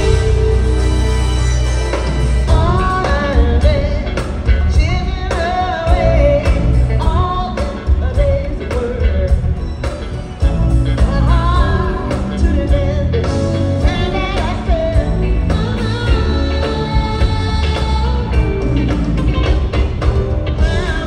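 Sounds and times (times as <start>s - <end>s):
live funk band playing: 0.0s - 21.0s
woman singing lead: 2.2s - 21.0s.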